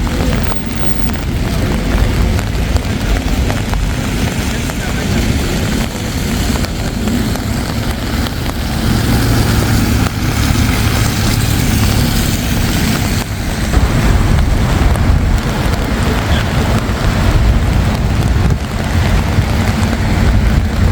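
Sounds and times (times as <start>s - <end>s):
engine hum: 0.0s - 20.9s
passing motor traffic rumble: 0.0s - 20.9s.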